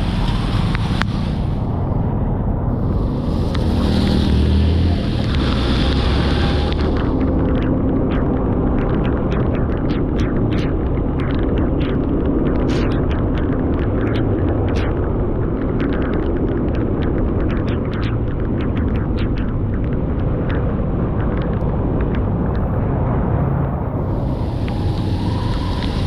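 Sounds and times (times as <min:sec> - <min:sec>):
raindrops ticking on camera: 0:00.0 - 0:01.6, 0:02.7 - 0:22.7, 0:24.0 - 0:26.0
vehicle low rumble: 0:00.0 - 0:26.0
wind buffeting microphone: 0:00.0 - 0:26.0.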